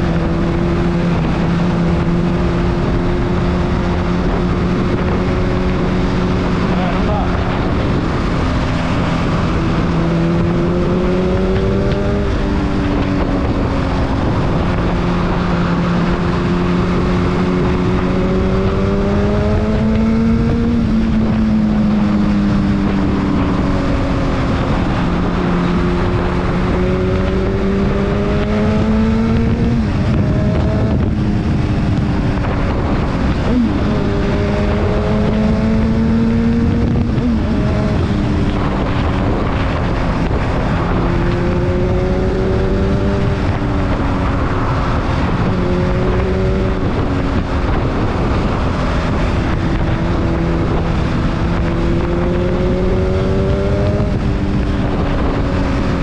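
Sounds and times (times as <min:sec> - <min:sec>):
motorcycle engine at speed: 0:00.0 - 0:56.0
wind and road noise: 0:00.0 - 0:56.0.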